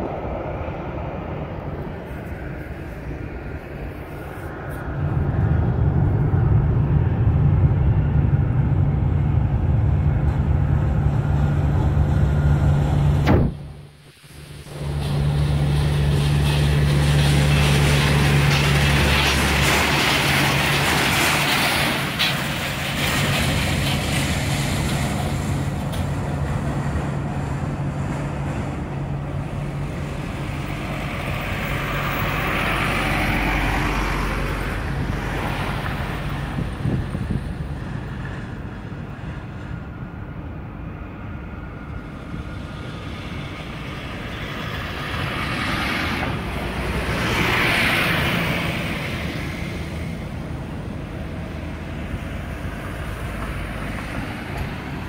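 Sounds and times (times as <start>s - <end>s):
bus passing: 0.0s - 55.0s
tractor engine humming: 0.0s - 55.0s
vehicles driving past: 0.0s - 55.0s.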